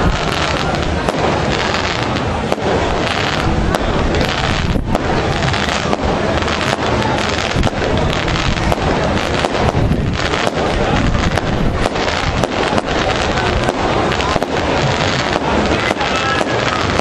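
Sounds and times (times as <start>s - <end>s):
dense crackling pops: 0.0s - 17.0s.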